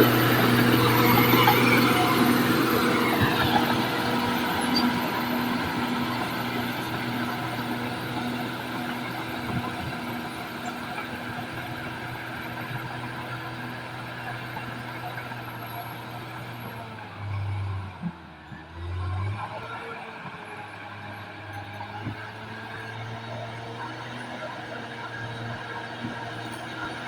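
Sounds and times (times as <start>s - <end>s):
bulldozer diesel engine running: 0.0s - 19.4s, 20.0s - 27.0s.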